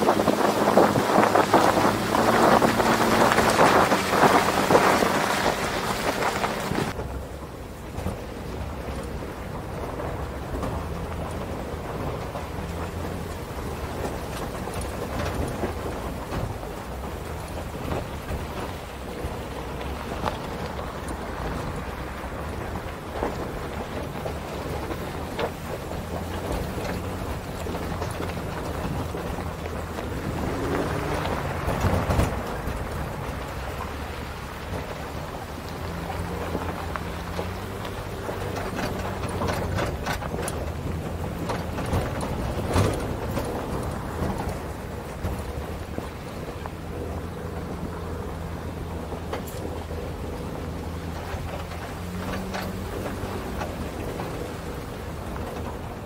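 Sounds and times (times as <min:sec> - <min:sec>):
truck clattering over bumps: 0:00.0 - 0:56.0
truck engine hum: 0:00.0 - 0:56.0
tyres on gravel: 0:00.0 - 0:56.0
wind and road noise: 0:00.0 - 0:56.0.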